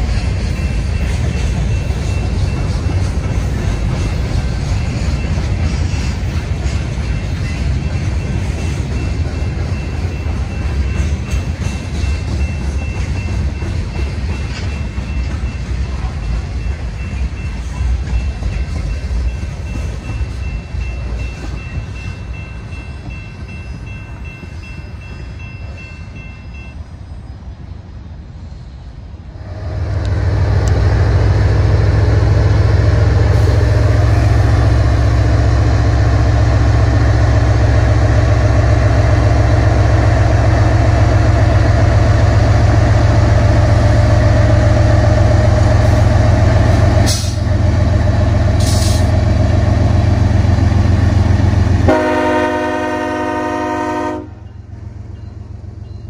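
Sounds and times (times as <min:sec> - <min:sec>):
train passing with deep rumble: 0:00.0 - 0:56.0.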